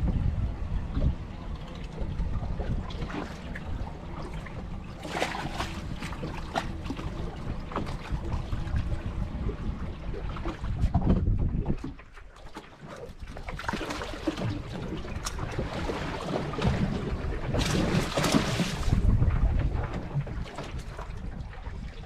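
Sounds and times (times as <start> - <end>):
wind buffeting microphone: 0.0 - 12.1, 13.2 - 22.0
boat motor running: 0.0 - 22.0
water splashes: 0.0 - 22.0.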